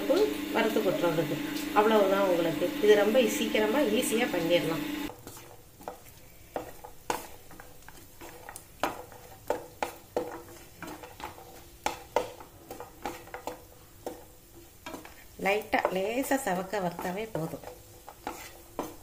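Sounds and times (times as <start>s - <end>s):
faint sizzle: 0.0s - 19.0s
spatula scraping a pan: 3.1s - 19.0s.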